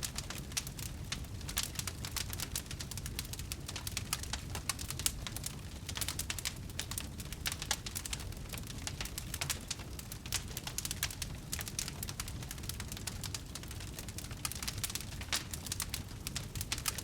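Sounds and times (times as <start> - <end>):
bonfire crackling and popping: 0.0 - 17.0
low rumble of flames: 0.0 - 17.0.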